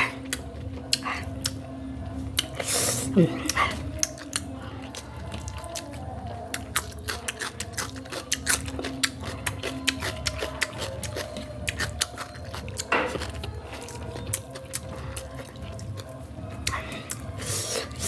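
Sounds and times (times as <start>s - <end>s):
chewing crisp cucumber: 0.0s - 18.0s.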